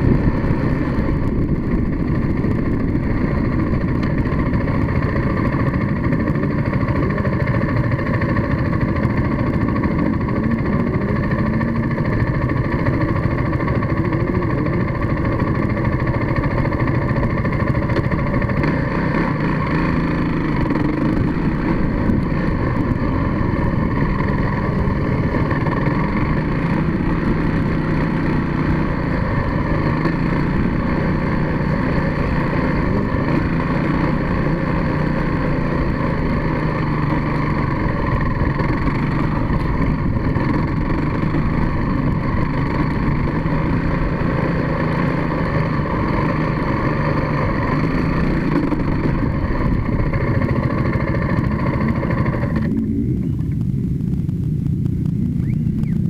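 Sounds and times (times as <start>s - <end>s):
small vehicle engine running: 0.0s - 56.0s.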